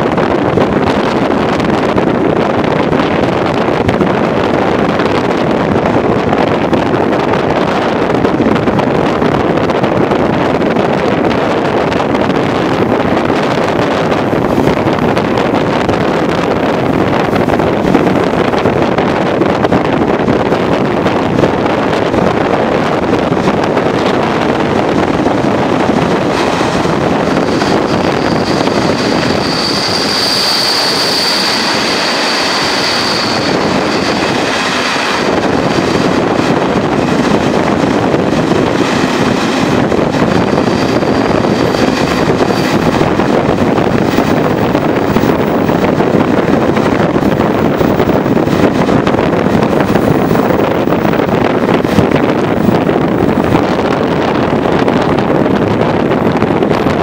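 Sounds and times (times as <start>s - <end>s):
train running noise and wind: 0.0s - 57.0s
wind buffeting microphone: 0.0s - 57.0s.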